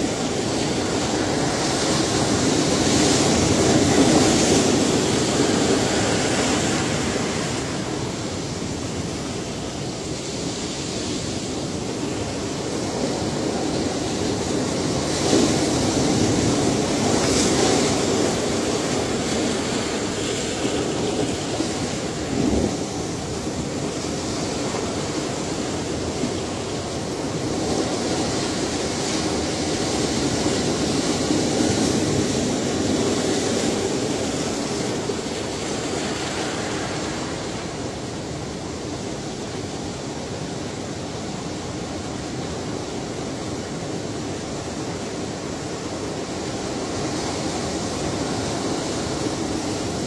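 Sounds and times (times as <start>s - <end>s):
ocean surf washing in: 0.0s - 50.0s.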